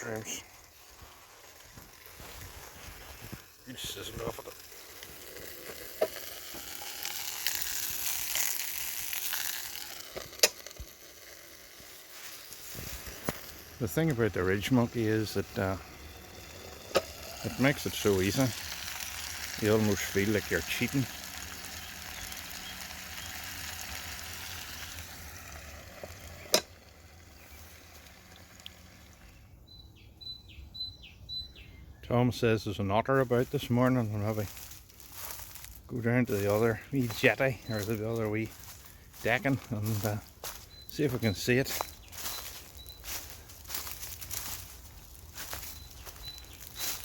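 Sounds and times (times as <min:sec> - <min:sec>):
sausages sizzling in a pan: 0:00.0 - 0:29.4, 0:34.4 - 0:47.0.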